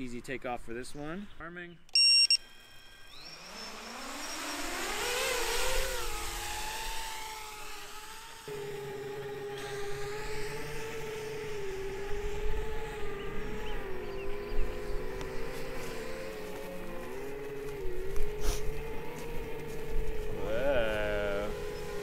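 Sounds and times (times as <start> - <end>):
drone motors whining: 2.0 - 22.0.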